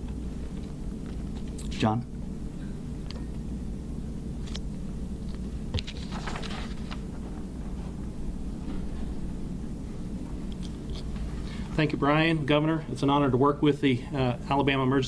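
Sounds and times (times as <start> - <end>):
low microphone hum: 0.0 - 15.0.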